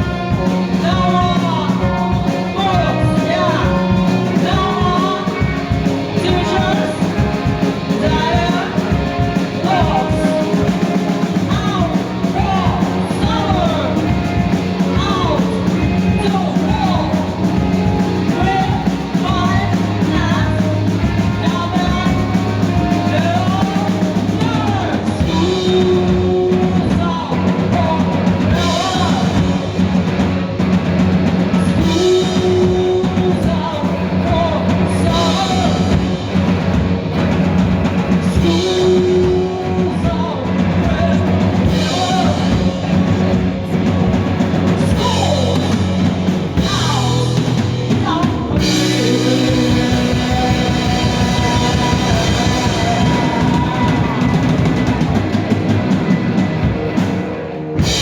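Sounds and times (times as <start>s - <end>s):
bass: 0.0s - 58.0s
drum kit beat: 0.0s - 58.0s
electric guitar: 0.0s - 58.0s.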